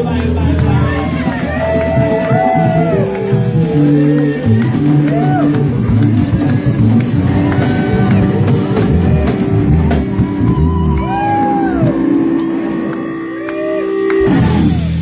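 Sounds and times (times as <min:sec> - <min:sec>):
electric guitar notes bending: 0:00.0 - 0:15.0
live rock band playing: 0:00.0 - 0:15.0.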